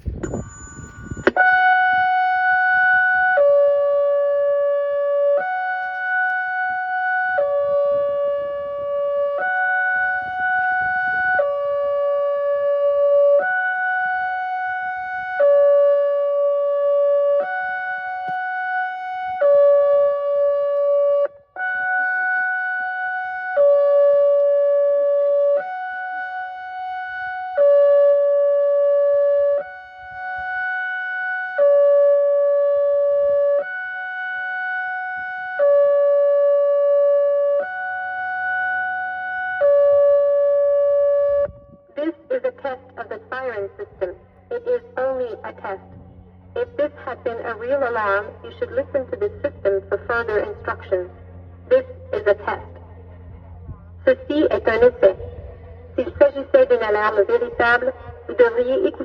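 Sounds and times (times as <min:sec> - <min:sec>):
hi-lo electronic siren: 0:00.0 - 0:59.0.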